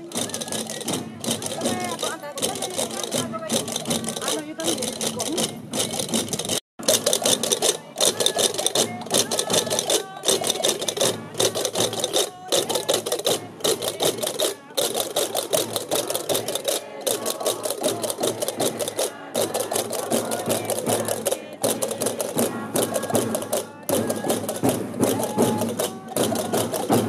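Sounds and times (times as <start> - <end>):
voices: 0.0 - 6.3, 7.2 - 27.0.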